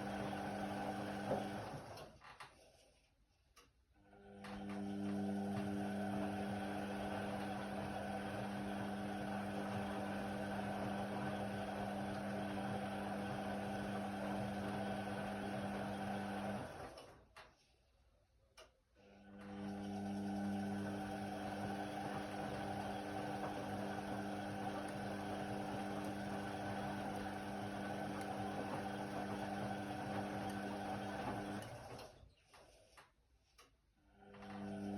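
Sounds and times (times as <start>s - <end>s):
washer drum motor humming: 0.0s - 2.1s, 4.2s - 17.1s, 19.2s - 32.2s, 34.2s - 34.9s.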